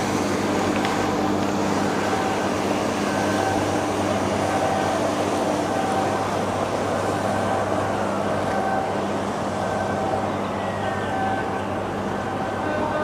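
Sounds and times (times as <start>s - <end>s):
engine drone: 0.0s - 13.0s
noisy wash of sound: 0.0s - 13.0s.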